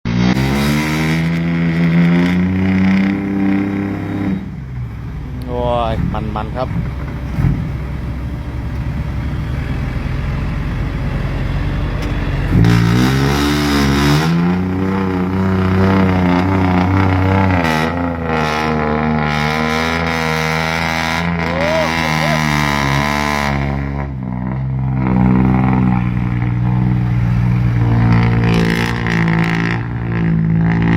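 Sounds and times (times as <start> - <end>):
diesel engine revving: 0.0 - 30.9.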